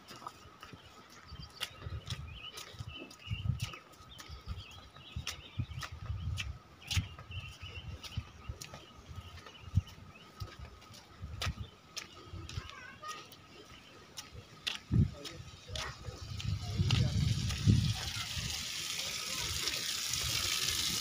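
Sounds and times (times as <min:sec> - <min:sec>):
footsteps on concrete: 0:00.0 - 0:17.7
birds chirping faintly: 0:00.0 - 0:21.0.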